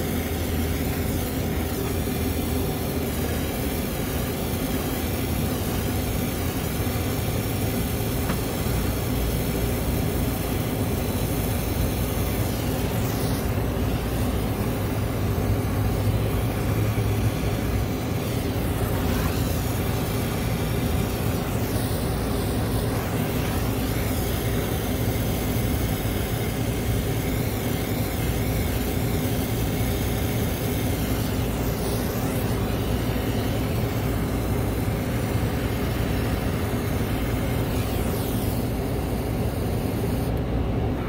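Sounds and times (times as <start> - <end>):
torch flame roaring: 0.0 - 41.0.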